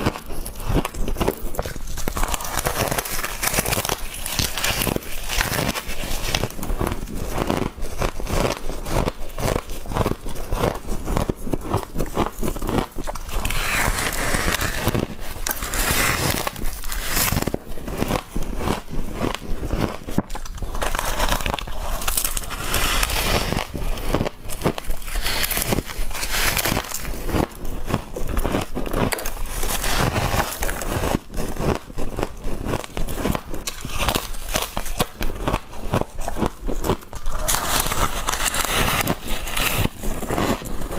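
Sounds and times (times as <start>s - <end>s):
person chewing crunchy frost: 0.0s - 40.9s.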